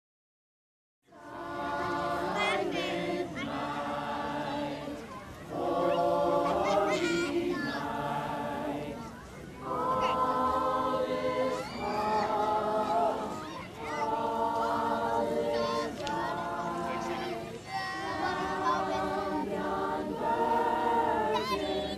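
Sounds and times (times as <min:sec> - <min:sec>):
choir singing long held notes: 0:01.1 - 0:21.9.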